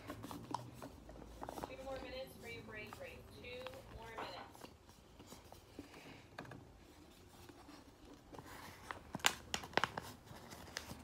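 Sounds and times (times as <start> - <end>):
paper crinkling: 0.0 - 6.2, 6.8 - 11.0
paper rustling: 0.0 - 6.2, 6.8 - 11.0.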